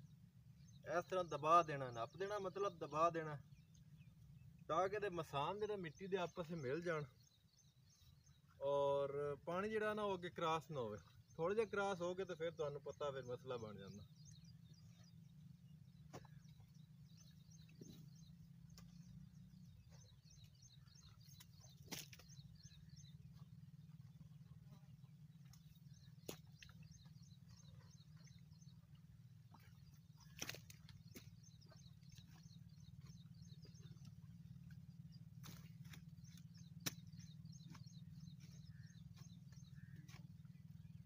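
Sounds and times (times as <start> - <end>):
low steady hum: 0.0 - 5.8, 12.5 - 41.0
faint birds chirping: 0.0 - 41.0.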